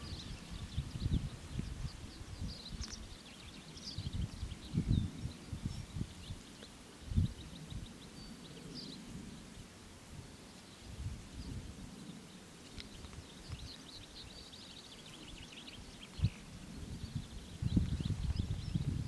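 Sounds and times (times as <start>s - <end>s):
small birds chirping: 0.0s - 19.0s
wind rumbling on microphone: 0.0s - 19.0s.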